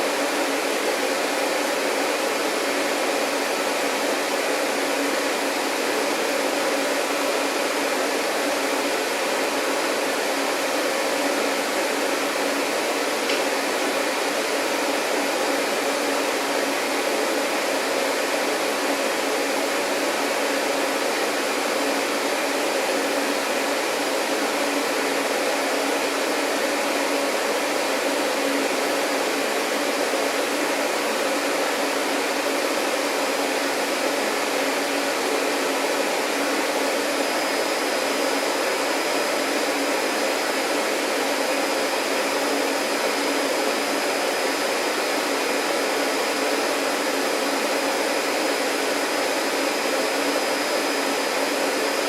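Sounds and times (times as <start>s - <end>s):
vacuum cleaner motor running: 0.0s - 52.0s.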